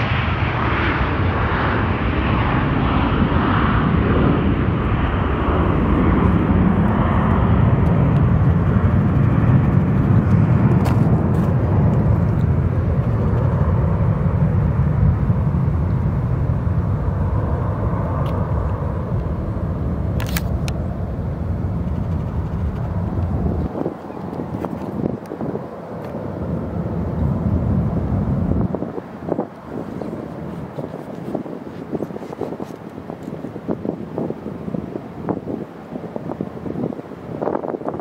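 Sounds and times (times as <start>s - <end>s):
jet engines rumbling at takeoff: 0.0s - 38.0s.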